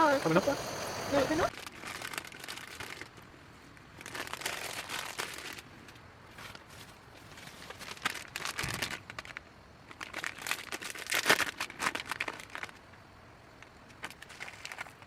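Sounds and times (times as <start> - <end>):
crinkling and rustling: 1.5 - 13.0, 13.6 - 15.0.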